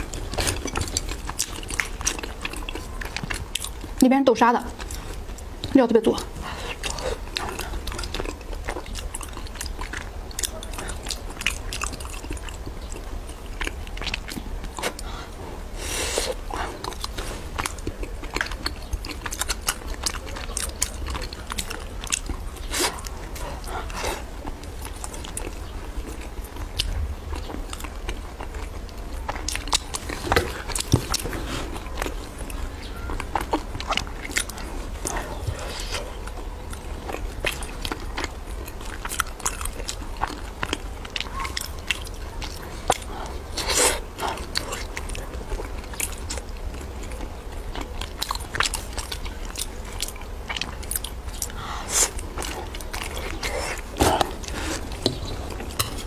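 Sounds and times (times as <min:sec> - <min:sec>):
close chewing mouth sounds: 0:00.0 - 0:56.0.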